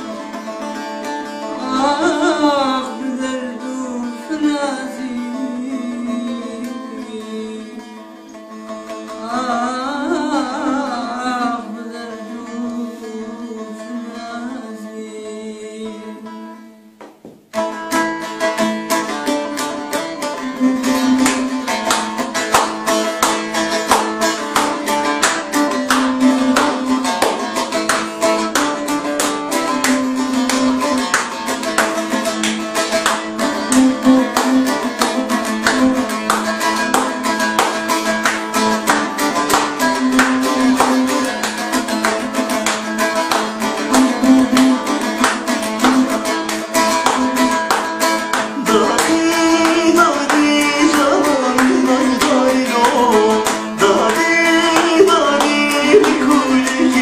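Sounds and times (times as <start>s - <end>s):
person singing with vibrato: 0.0s - 17.0s, 19.2s - 57.0s
saz playing: 0.0s - 57.0s.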